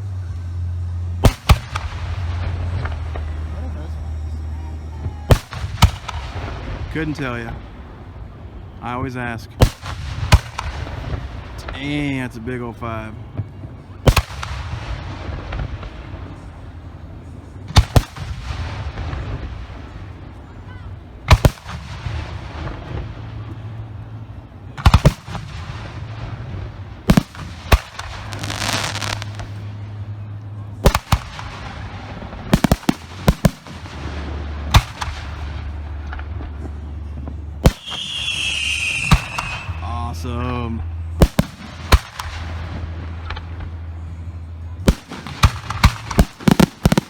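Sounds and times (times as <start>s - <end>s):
firework hissing crackle: 0.0s - 12.6s, 13.8s - 30.2s, 30.8s - 44.2s, 44.9s - 47.0s
firework shells bursting: 1.2s - 8.1s, 9.6s - 11.8s, 13.4s - 20.4s, 21.2s - 30.0s, 30.8s - 39.9s, 40.9s - 43.9s, 44.9s - 47.0s.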